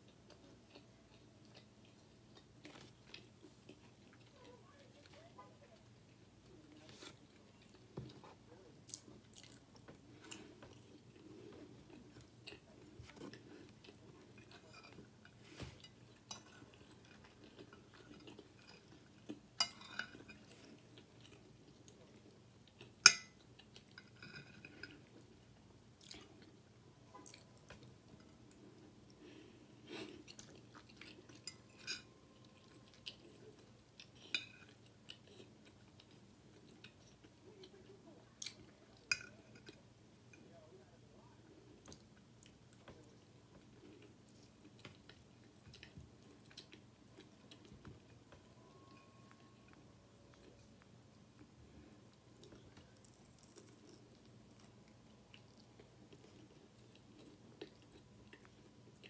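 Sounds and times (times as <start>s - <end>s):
person chewing food: 0.0s - 5.0s, 5.8s - 40.5s, 41.4s - 59.0s.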